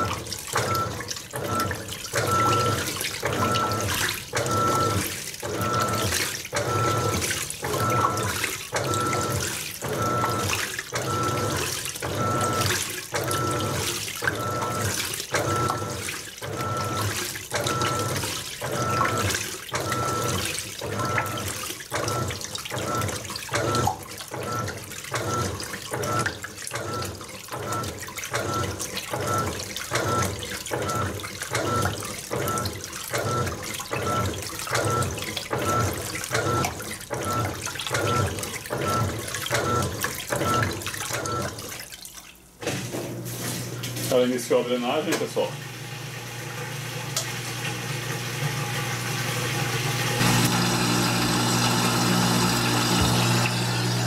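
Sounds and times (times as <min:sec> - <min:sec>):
washing machine motor whine: 0:00.0 - 0:41.8, 0:42.6 - 0:54.0
water sloshing: 0:00.0 - 0:44.3.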